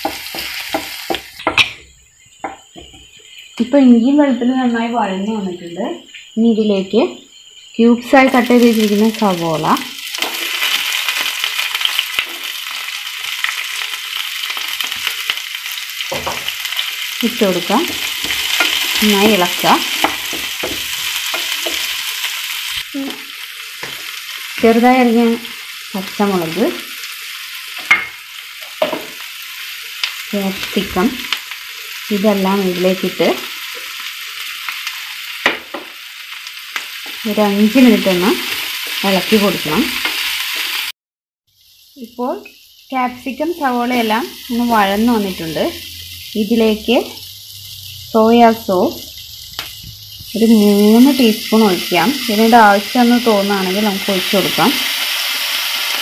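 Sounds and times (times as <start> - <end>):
onions sizzling in hot oil: 0.0 - 56.0.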